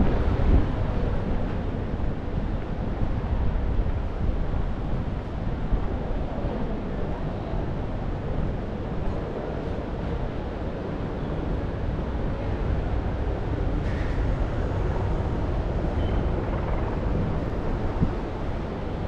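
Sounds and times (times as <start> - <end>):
city ambience rumble: 0.0 - 19.0
wind on microphone: 0.0 - 19.0.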